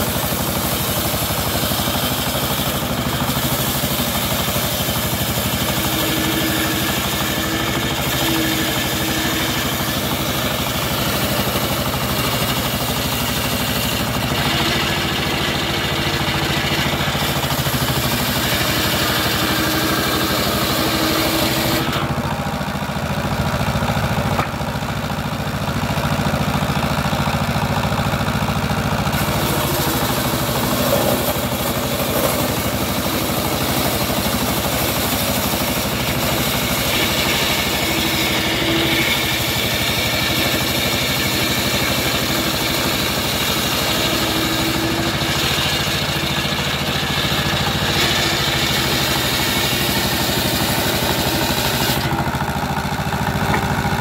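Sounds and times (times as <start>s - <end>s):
circular saw cutting wood: 0.0s - 23.4s, 28.2s - 54.0s
diesel engine running: 0.0s - 54.0s.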